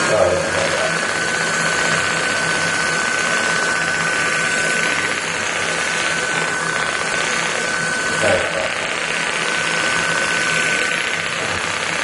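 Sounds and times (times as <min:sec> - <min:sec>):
mechanical buzz with high whine: 0:00.0 - 0:12.0.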